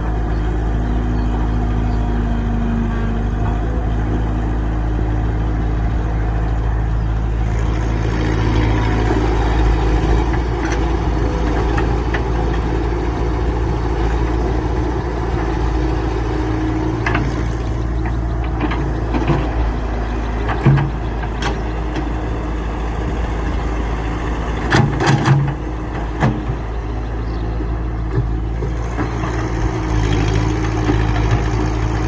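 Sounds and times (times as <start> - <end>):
excavator engine running: 0.0 - 32.0.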